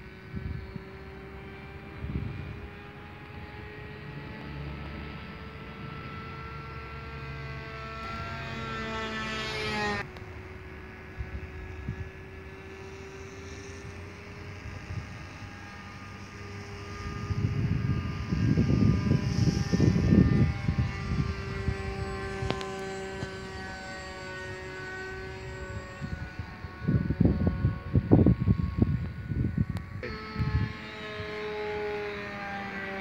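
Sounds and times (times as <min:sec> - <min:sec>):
model airplane propeller drone: 0:00.0 - 0:33.0.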